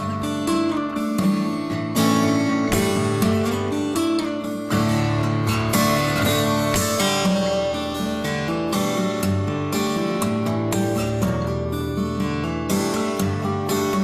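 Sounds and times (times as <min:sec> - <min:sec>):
strummed acoustic guitar music: 0:00.0 - 0:14.0.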